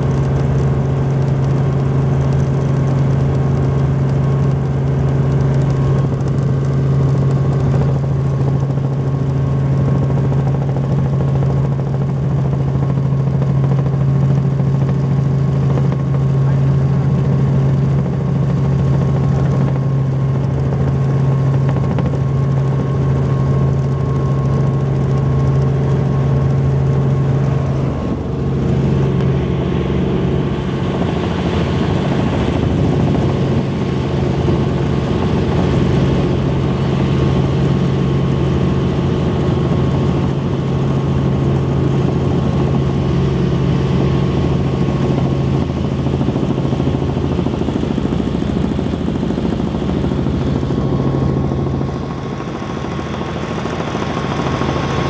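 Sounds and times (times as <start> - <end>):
helicopter cabin drone: 0.0 - 55.0.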